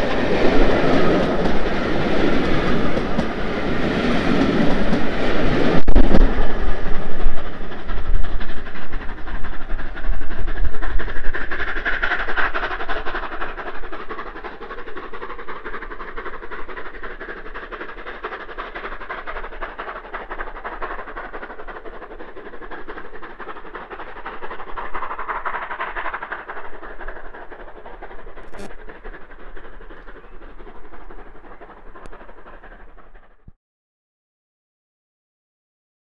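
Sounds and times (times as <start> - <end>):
steam locomotive exhaust rumble: 0.0 - 33.5
wheels on rails: 0.0 - 33.5.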